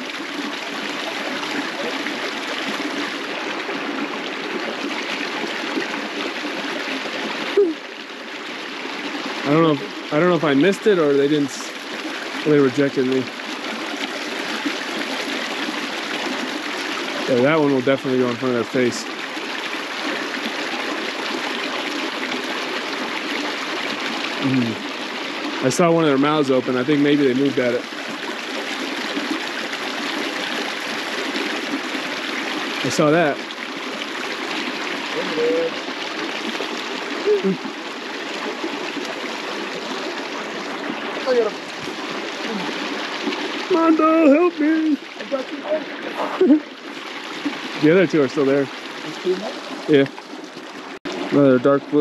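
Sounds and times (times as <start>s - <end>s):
creek water running over rocks: 0.0s - 52.0s.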